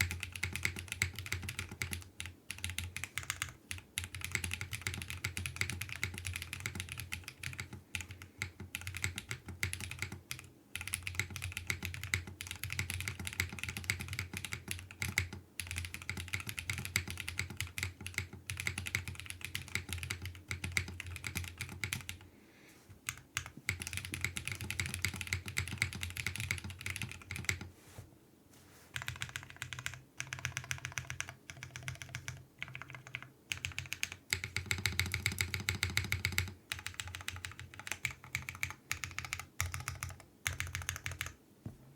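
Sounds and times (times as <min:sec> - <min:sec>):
mechanical keyboard typing: 0:00.0 - 0:22.2, 0:23.0 - 0:27.7, 0:28.9 - 0:41.4.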